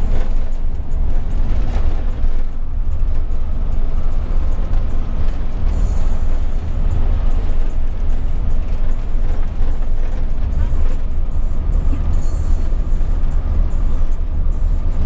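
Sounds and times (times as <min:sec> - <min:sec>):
coach engine rumble: 0:00.0 - 0:15.0
road noise: 0:00.0 - 0:15.0.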